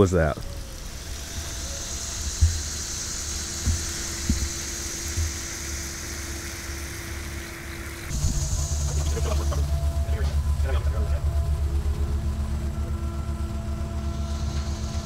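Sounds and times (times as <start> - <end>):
faint steady hum: 0.0 - 15.0
sprinkler water jets hissing: 0.0 - 15.0
low rumble: 0.4 - 15.0.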